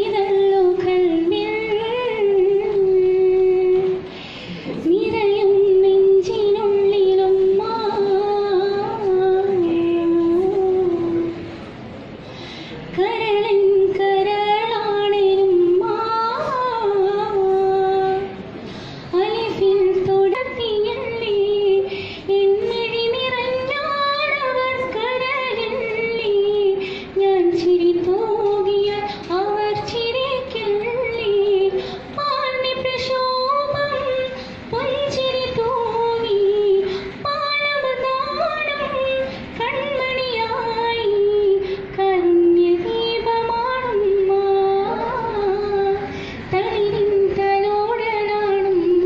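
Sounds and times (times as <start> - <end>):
girl singing into microphone: 0.0 - 11.7, 12.4 - 49.0.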